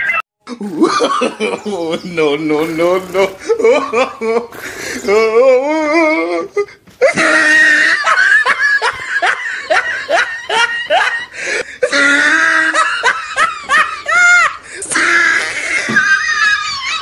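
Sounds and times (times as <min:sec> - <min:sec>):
person laughing: 0:00.5 - 0:17.0.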